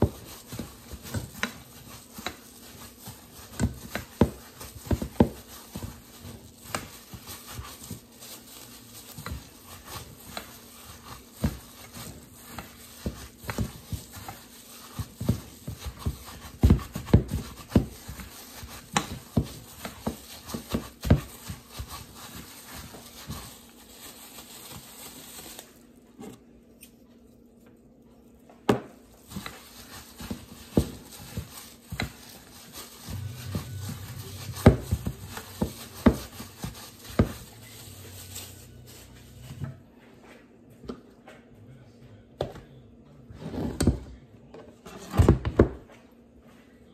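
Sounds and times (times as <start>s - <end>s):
hand squishing ground meat: 0.0s - 25.9s, 26.7s - 39.6s.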